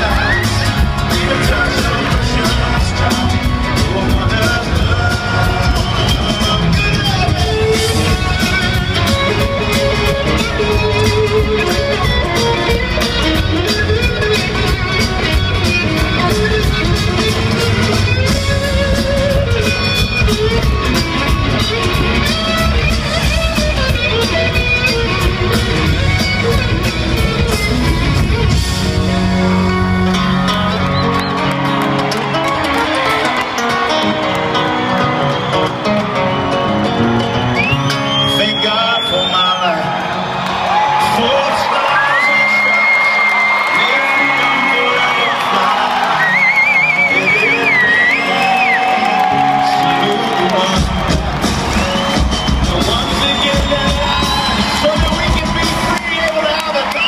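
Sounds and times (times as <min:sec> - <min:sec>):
live band playing guitar music: 0:00.0 - 0:57.0.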